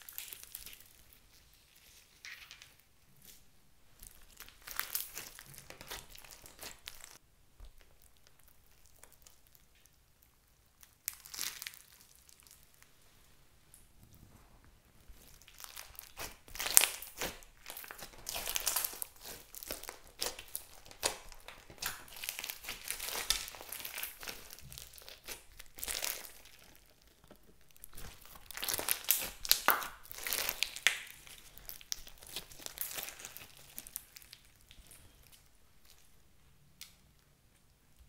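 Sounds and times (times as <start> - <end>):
slime crackling and popping: 0.0 - 2.8, 4.0 - 12.8, 15.0 - 36.0.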